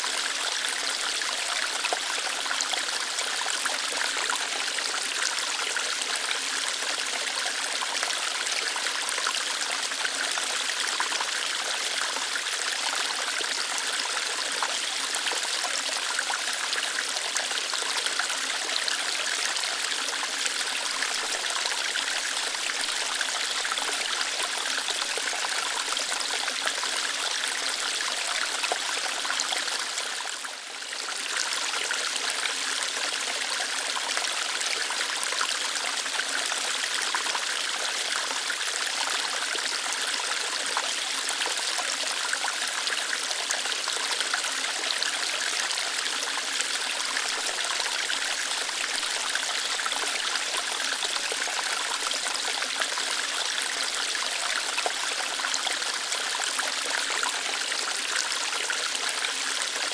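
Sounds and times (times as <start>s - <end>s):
small waterfall splashing over rocks: 0.0s - 59.9s.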